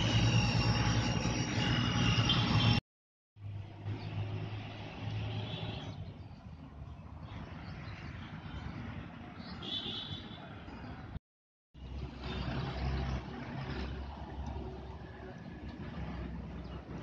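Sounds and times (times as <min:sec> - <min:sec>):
distant road traffic: 0:00.0 - 0:02.8, 0:03.4 - 0:11.2, 0:11.8 - 0:17.0.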